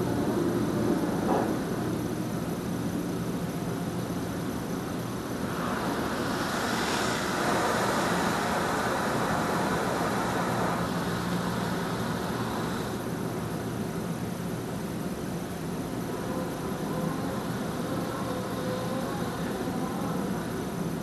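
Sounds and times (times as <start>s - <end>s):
steady low hum: 0.0s - 21.0s
water spray hissing on car: 4.1s - 21.0s.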